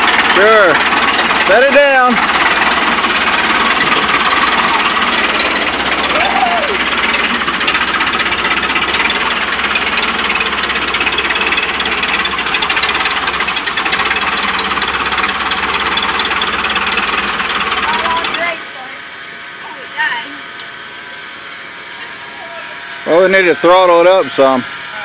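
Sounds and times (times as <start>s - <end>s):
backhoe engine running: 0.0s - 25.0s.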